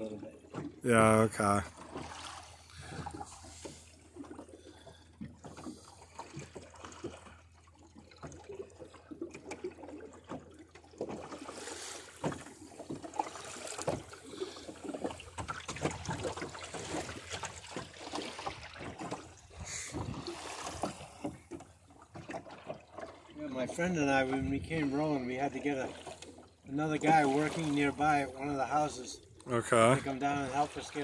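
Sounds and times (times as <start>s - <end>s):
water splashing and trickling: 0.0s - 31.0s.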